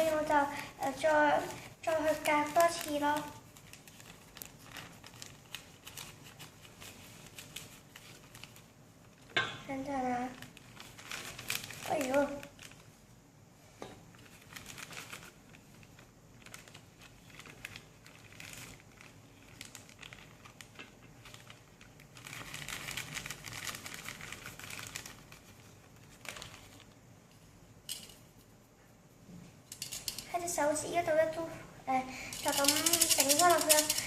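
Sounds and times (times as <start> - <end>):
flour sifting through a sieve: 0.0 - 13.0, 14.1 - 26.9, 32.0 - 34.0.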